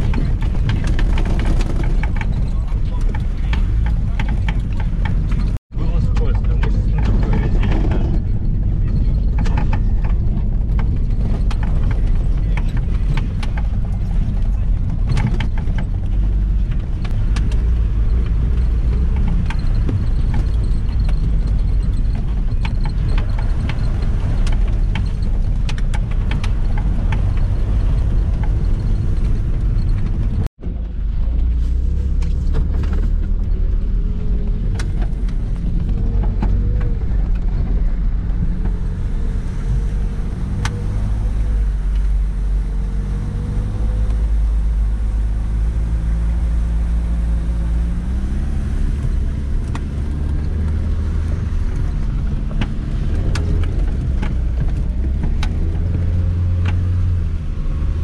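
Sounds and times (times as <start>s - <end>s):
van engine and road rumble: 0.0s - 58.0s
vehicle body clicks and knocks: 0.0s - 58.0s.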